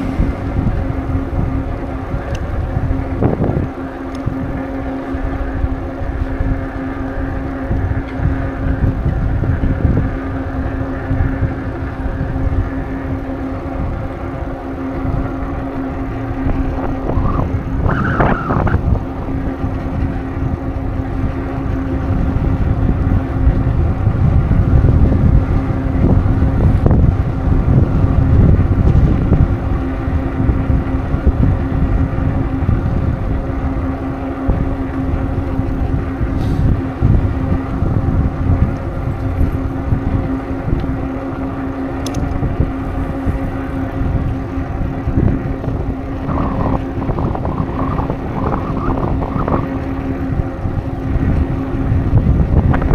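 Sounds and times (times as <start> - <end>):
bicycle rolling noise: 0.0 - 52.9
steady low hum: 0.0 - 52.9
wind buffeting microphone: 0.0 - 52.9.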